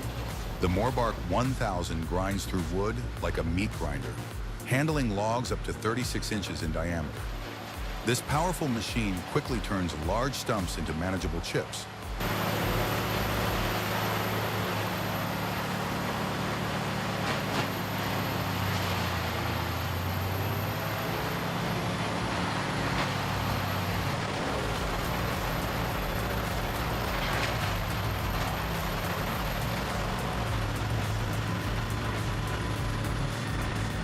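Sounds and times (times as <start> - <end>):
diesel engine hum: 0.0 - 34.0.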